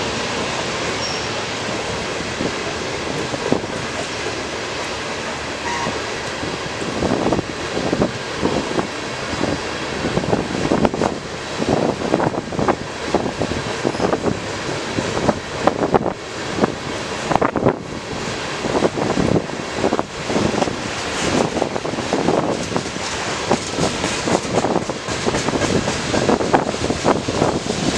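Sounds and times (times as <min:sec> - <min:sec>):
train clanks: 0:00.0 - 0:27.9
train wheels rumbling on rail: 0:00.0 - 0:27.9
wind buffeting microphone: 0:01.6 - 0:04.9, 0:05.9 - 0:27.9.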